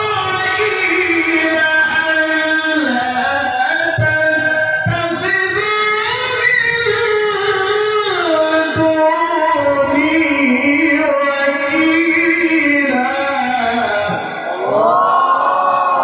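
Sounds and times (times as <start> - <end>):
man reciting in melodic chant: 0.0 - 14.8.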